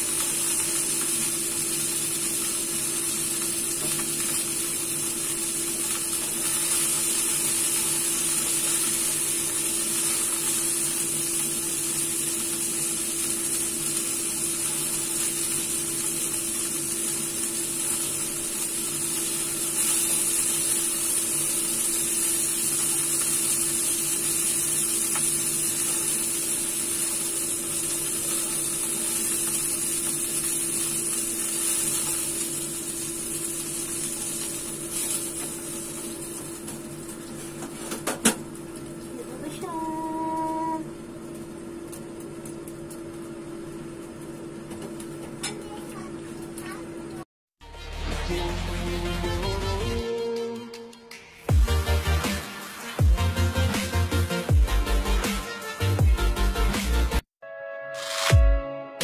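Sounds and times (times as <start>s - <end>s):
chicken wings frying in oil: 0.0s - 47.2s, 51.5s - 55.2s.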